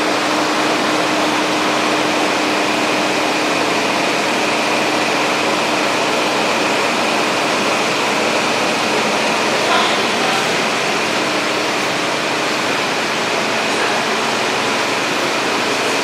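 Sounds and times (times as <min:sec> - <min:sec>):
whooshing hiss of cooling machinery: 0:00.0 - 0:16.0.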